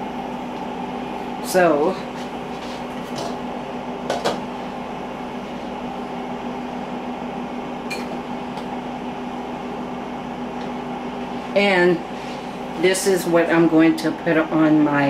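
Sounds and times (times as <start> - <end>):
appliance hum: 0.0 - 15.0.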